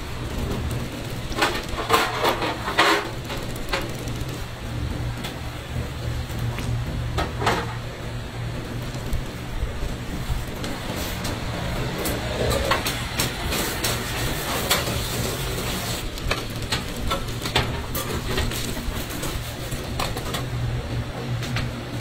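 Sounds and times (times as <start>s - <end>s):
noisy background: 0.0s - 22.0s
scattered clicks and knocks: 0.0s - 22.0s
steady low hum: 0.0s - 22.0s.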